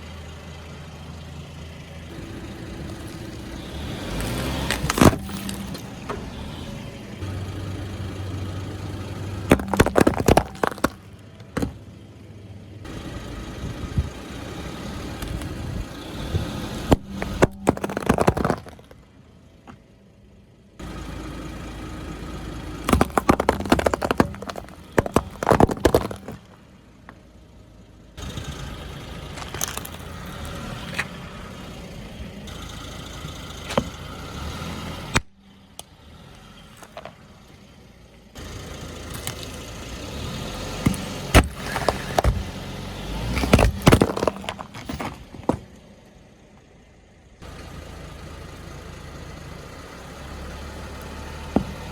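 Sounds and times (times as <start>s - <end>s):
car engine running low: 0.0s - 51.9s
objects crunching under tyres: 2.1s - 20.0s, 20.8s - 27.6s, 28.2s - 37.7s, 38.4s - 46.7s, 49.8s - 51.9s.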